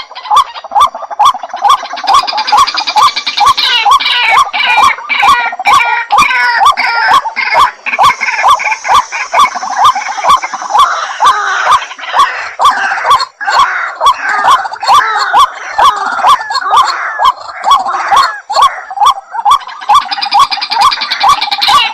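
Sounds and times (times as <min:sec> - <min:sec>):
other bird calls: 0:00.0 - 0:21.9
waterhen calling hoarse notes: 0:00.0 - 0:21.9.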